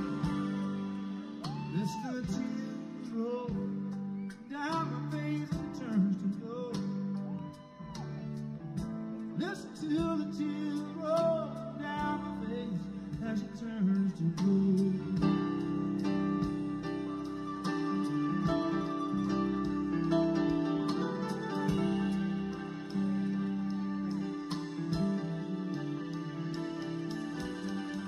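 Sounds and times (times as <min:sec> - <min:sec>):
person singing: 0:00.0 - 0:08.1, 0:09.4 - 0:28.0
acoustic guitar: 0:00.0 - 0:28.0.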